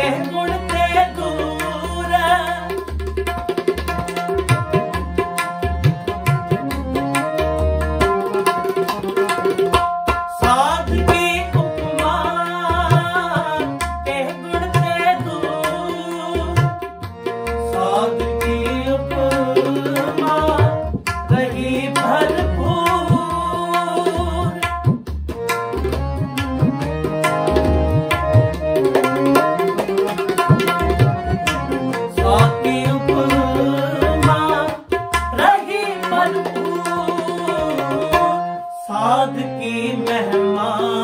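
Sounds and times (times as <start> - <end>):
harmonium chords and melody: 0.0 - 41.0
tabla rhythm: 0.0 - 41.0.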